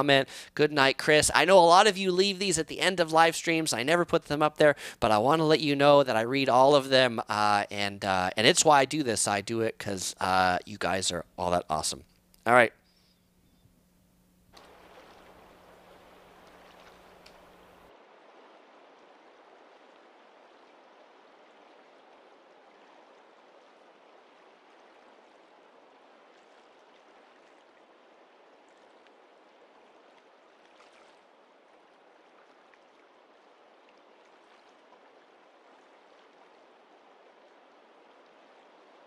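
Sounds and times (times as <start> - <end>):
faint rush of river water: 0.0 - 11.2, 14.5 - 39.0.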